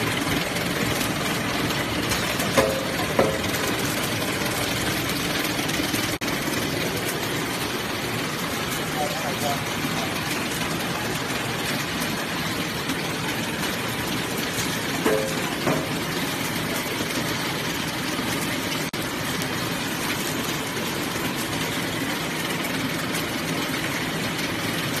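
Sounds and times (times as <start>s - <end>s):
packing machine running: 0.0s - 25.0s.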